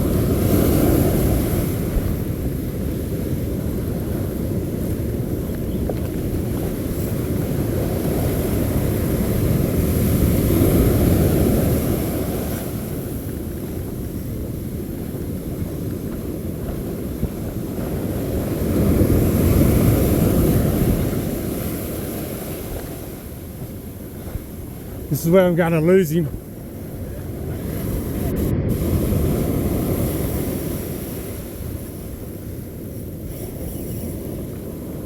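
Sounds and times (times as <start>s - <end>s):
beach surf: 0.0s - 35.0s
wind buffeting microphone: 0.0s - 35.0s.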